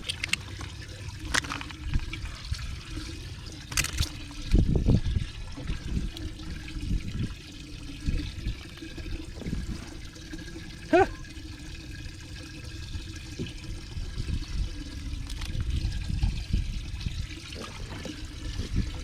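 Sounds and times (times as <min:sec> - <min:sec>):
water trickling and splashing: 0:00.0 - 0:19.0.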